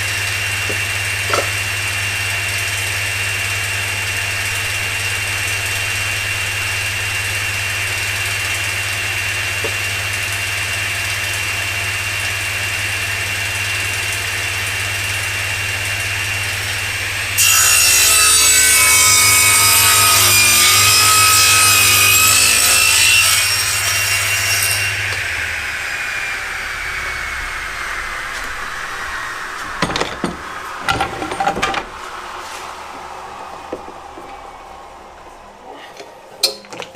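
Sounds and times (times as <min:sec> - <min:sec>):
table saw cutting wood: 0:00.0 - 0:35.4
saw blade winding down: 0:00.0 - 0:35.6.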